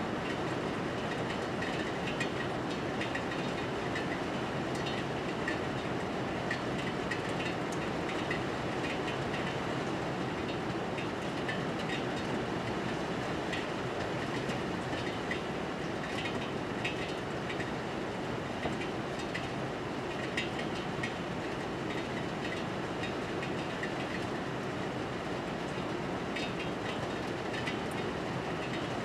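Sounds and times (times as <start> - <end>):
raindrops ticking on surfaces: 0.1 - 29.0.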